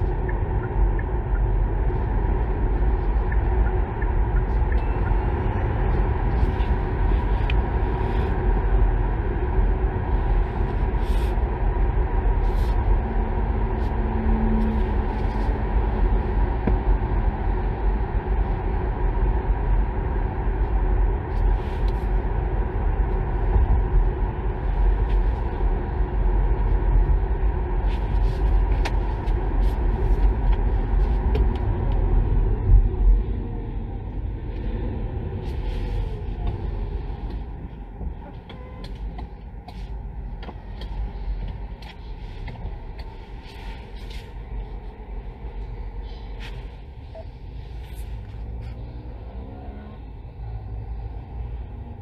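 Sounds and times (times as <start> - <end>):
road and tyre rumble: 0.0 - 52.0.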